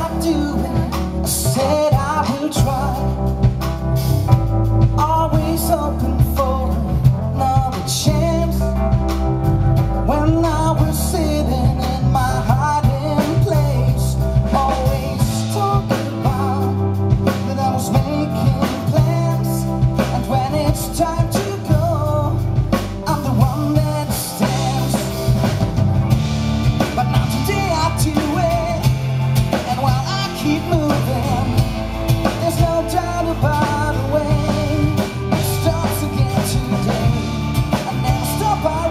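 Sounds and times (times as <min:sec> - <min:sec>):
man singing: 0:00.0 - 0:03.8, 0:04.7 - 0:25.6, 0:26.7 - 0:38.9
live pop band playing: 0:00.0 - 0:38.9.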